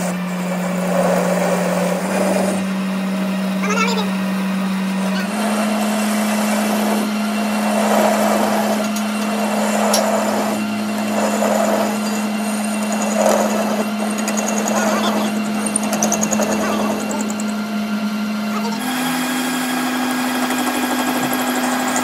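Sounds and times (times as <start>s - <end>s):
lathe cutting metal: 0.0s - 22.0s
lathe motor hum: 0.0s - 22.0s.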